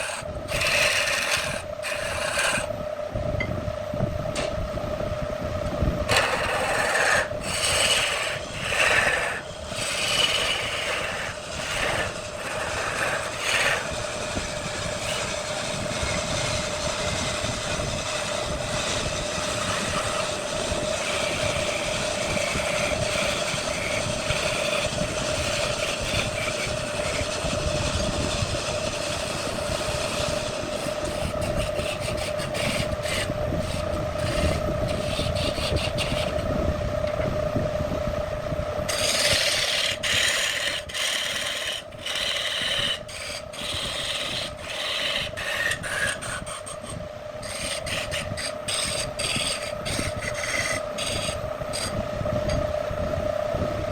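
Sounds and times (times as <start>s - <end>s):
tool scraping spinning wood: 0.0s - 3.0s, 5.7s - 37.4s, 38.8s - 52.9s
wood lathe motor hum: 0.0s - 53.9s.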